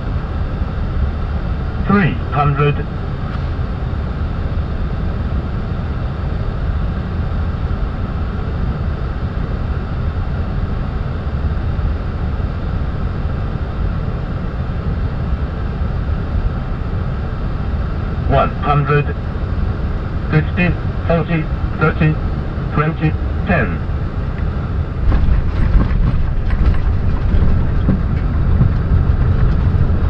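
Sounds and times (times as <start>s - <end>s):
airflow and engines rushing: 0.0s - 30.0s.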